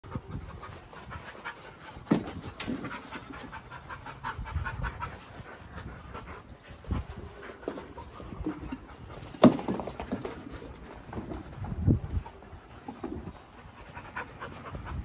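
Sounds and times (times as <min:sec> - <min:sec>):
dogs panting: 0:00.0 - 0:15.0.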